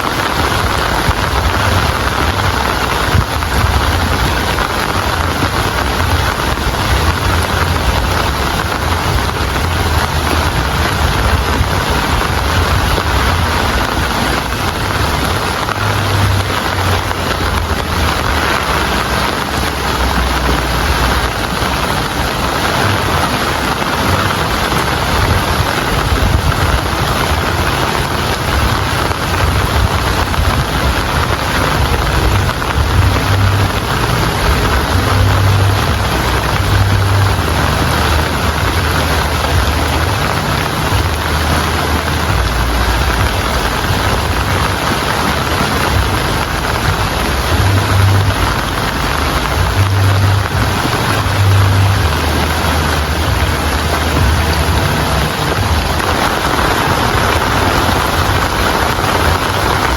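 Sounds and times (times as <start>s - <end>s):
heavy rain hissing: 0.0s - 59.9s
low rumble: 0.1s - 59.9s.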